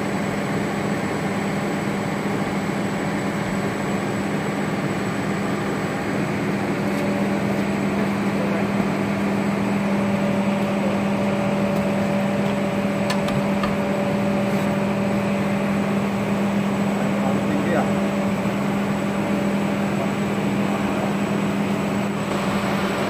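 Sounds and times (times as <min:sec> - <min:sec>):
motor humming with low drone: 0:00.0 - 0:23.0.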